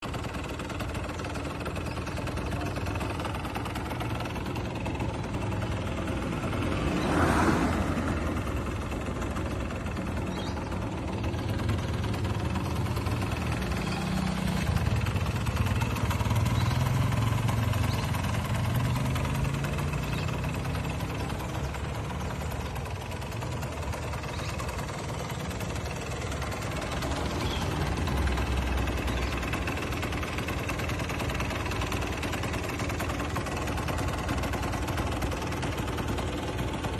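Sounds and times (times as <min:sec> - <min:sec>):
two-stroke engine idling: 0:00.0 - 0:36.9.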